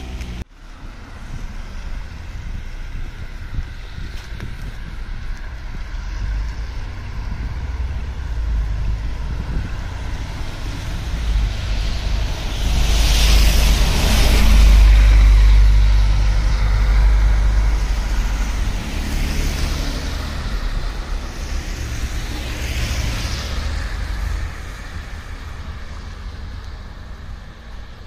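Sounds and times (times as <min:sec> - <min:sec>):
low engine rumble: 0:00.0 - 0:28.0
tyres hissing on wet road: 0:00.0 - 0:28.0.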